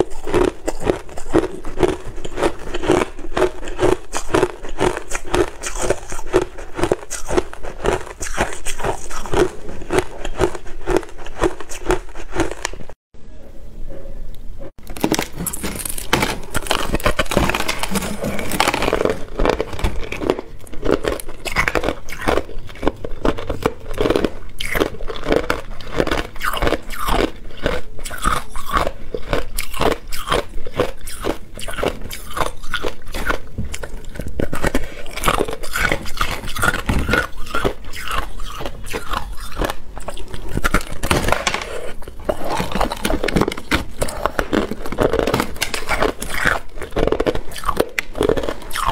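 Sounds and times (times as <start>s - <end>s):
ice crunching between teeth: 0.0s - 13.0s, 14.8s - 48.9s.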